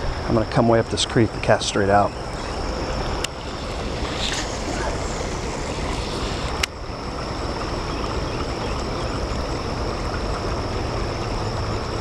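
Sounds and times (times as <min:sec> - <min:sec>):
wind rumbling on microphone: 0:01.3 - 0:12.0
creek running over rocks: 0:01.5 - 0:11.2.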